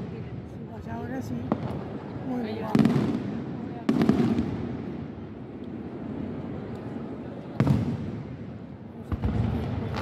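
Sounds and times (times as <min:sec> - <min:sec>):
low rumble of fireworks: 0:00.0 - 0:10.0.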